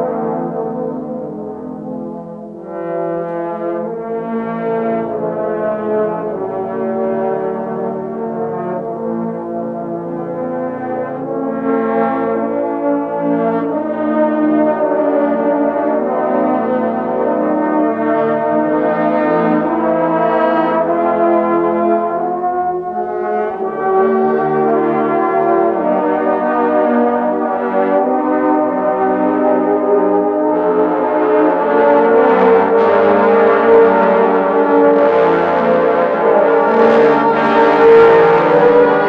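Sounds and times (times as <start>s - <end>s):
trombone choir playing chords: 0.0s - 39.0s.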